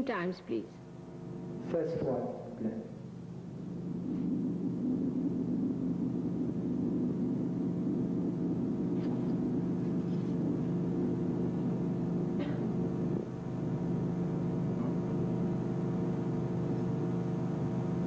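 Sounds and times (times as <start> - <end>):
low electrical hum with tones: 0.0 - 18.0.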